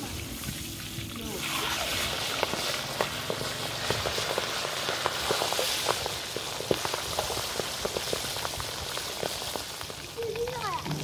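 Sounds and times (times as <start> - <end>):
fish sizzling in hot oil: 0.0 - 11.0
oil crackling pops: 0.0 - 11.0.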